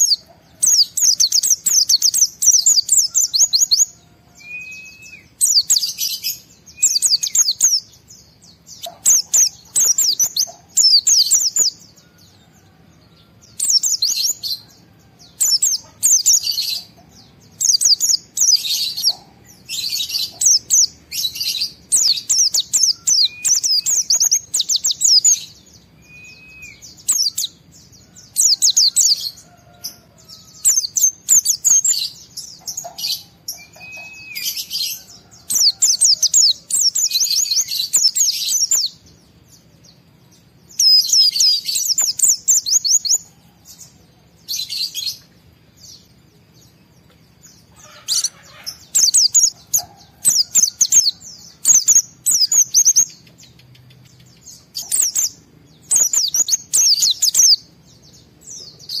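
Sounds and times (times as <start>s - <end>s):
white-eye twittering song: 0.0s - 59.0s.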